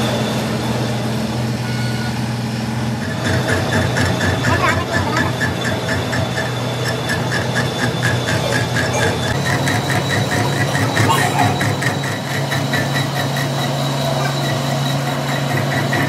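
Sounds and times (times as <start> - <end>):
metal lathe motor hum: 0.0 - 16.0.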